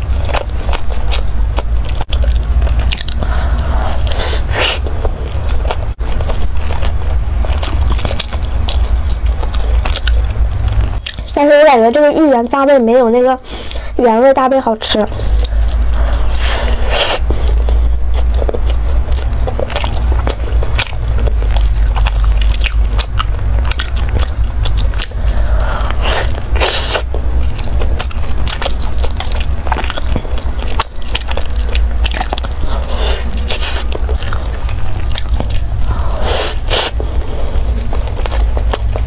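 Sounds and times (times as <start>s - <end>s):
person chewing cake: 0.0s - 11.4s, 14.8s - 39.0s
steady low hum: 0.0s - 39.0s.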